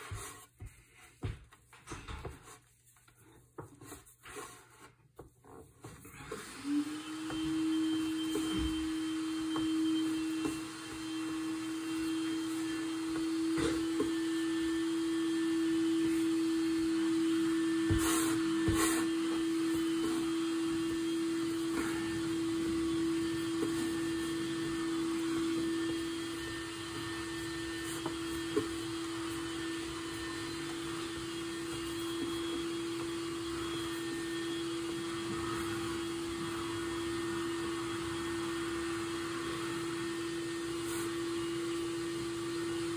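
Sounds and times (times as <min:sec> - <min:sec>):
vacuum cleaner droning: 0:03.2 - 0:42.9.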